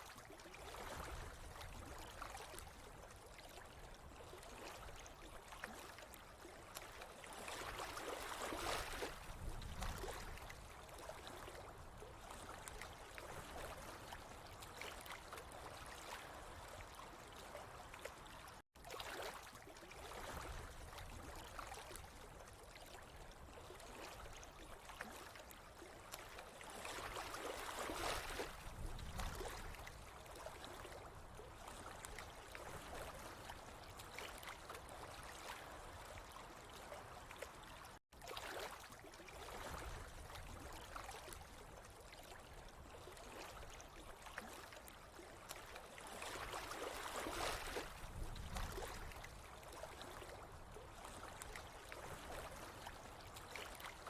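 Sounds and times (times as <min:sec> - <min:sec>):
water trickling and gurgling: 0:00.0 - 0:54.0.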